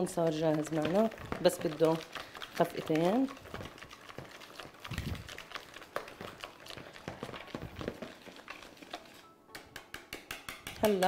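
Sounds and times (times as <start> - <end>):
whisk tapping plastic bowl: 0.0 - 11.0.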